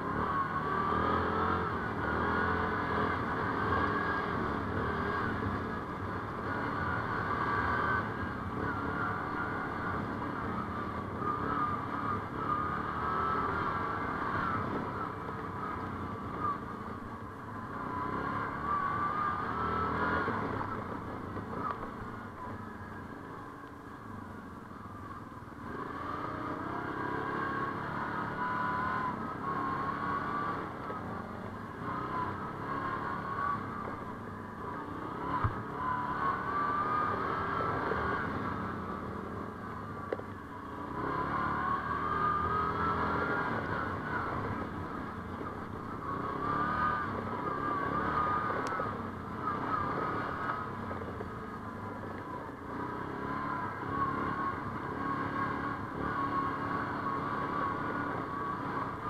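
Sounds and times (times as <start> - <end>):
atv engine revving: 0.0 - 24.6, 25.6 - 59.0.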